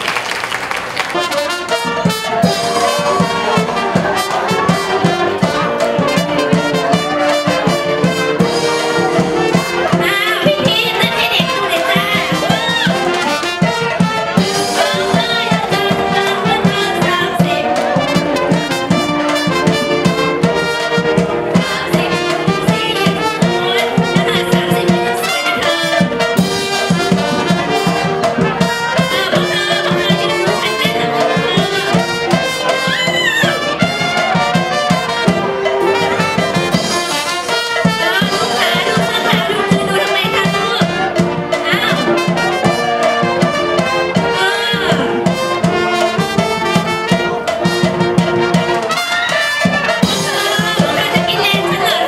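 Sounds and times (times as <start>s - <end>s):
brass band music: 0.0s - 52.0s.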